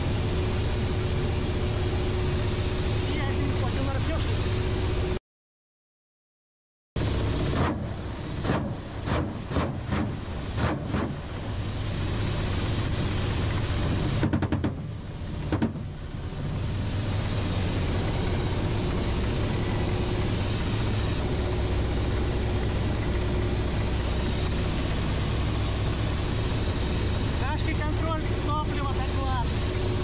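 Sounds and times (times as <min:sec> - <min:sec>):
helicopter engines and rotor drone: 0:00.0 - 0:05.2, 0:07.0 - 0:30.0.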